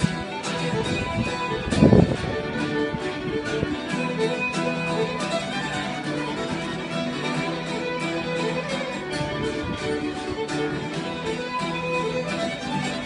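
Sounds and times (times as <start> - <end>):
guitar strumming chords: 0.0 - 13.0
violin bowing long notes: 0.0 - 13.0.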